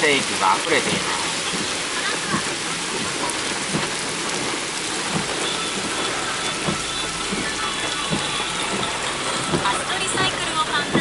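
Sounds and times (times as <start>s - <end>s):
floodwater flowing: 0.0s - 11.0s
heavy rain pouring: 0.0s - 11.0s.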